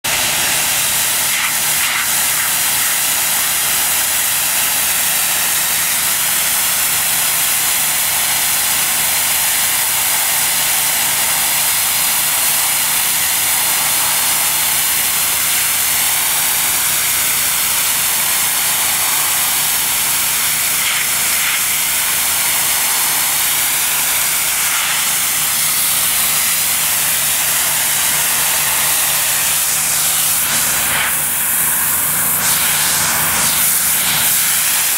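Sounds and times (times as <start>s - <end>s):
pressure washer hissing on concrete: 0.0s - 34.9s.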